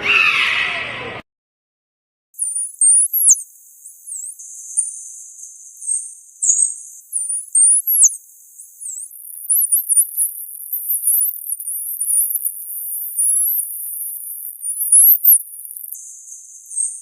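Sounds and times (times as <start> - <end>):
dolphin whistles: 2.4 - 8.2, 8.8 - 17.0.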